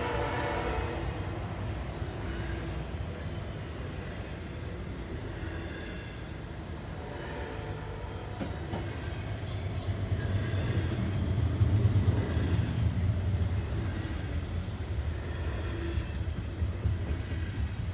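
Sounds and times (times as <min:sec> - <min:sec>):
train rumbling: 0:00.0 - 0:17.9.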